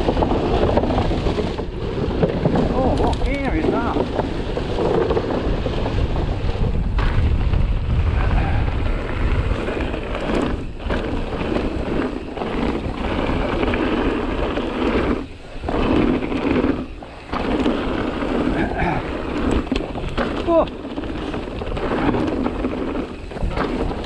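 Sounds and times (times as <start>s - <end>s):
bike tyres rumbling on trail: 0.0s - 24.0s
wind buffeting microphone: 0.0s - 24.0s.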